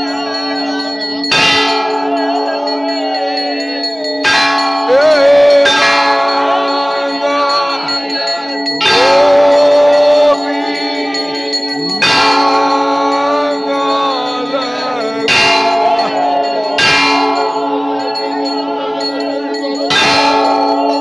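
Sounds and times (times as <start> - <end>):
temple bells ringing: 0.0 - 21.0
voices singing: 0.0 - 21.0.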